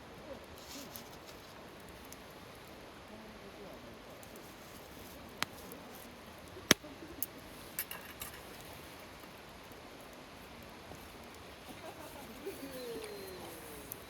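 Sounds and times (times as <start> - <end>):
low steady hiss: 0.0 - 14.0
campfire wood crackling: 0.1 - 14.0.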